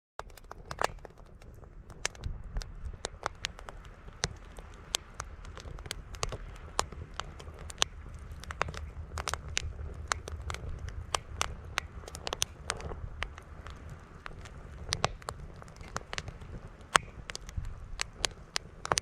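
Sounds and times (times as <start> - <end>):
campfire crackling and popping: 0.2 - 19.0
strong wind rumble: 0.2 - 19.0.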